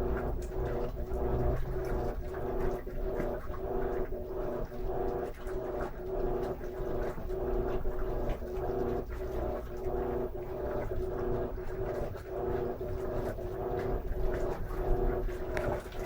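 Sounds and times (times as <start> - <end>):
washing machine agitating: 0.0 - 16.0.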